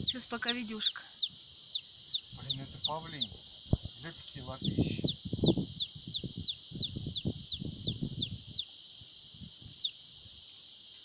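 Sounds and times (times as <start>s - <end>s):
chick peeping: 0.0s - 8.8s, 9.7s - 10.0s.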